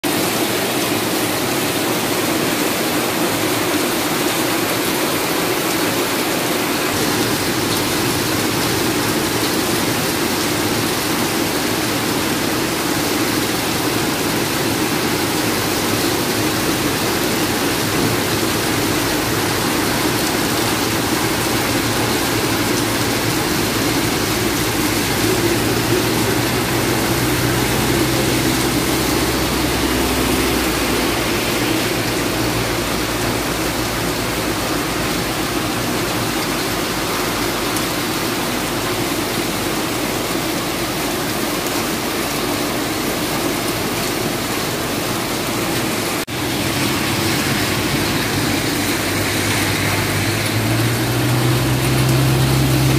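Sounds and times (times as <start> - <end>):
heavy rain falling: 0.0 - 52.9
water streaming off roofs: 0.0 - 52.9.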